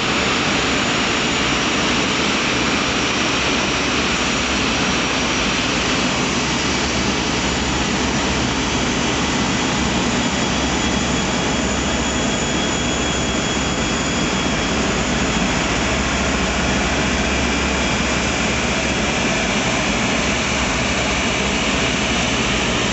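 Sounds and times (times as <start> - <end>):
jet engines rushing with high whine: 0.0 - 22.9.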